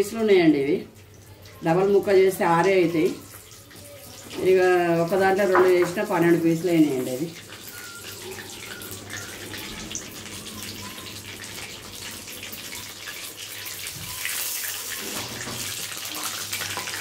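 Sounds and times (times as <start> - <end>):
fish deep-frying in hot oil: 0.0 - 17.0.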